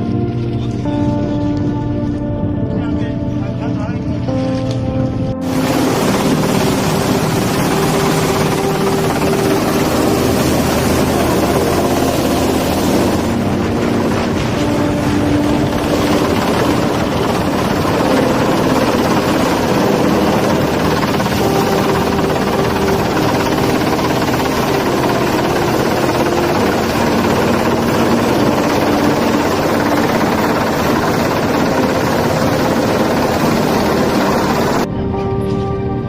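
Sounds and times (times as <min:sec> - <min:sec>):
helicopter rotor and engine: 0:05.4 - 0:34.9.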